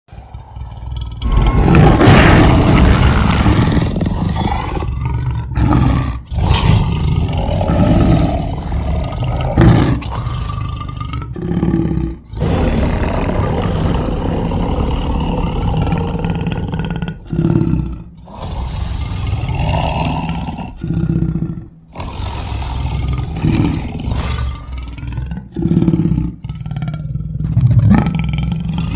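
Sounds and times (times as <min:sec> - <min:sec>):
big cat roars and growls: 0:00.1 - 0:28.9.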